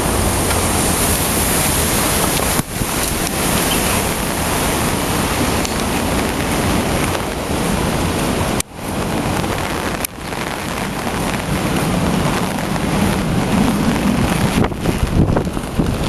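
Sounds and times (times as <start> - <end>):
flooded river rushing: 0.0 - 16.0
strong wind buffeting microphone: 0.0 - 16.0.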